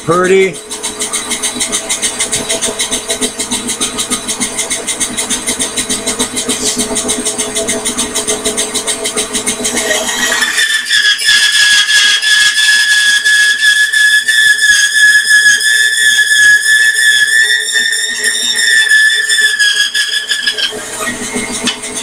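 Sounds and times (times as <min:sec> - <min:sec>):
bandsaw running: 0:00.0 - 0:22.0.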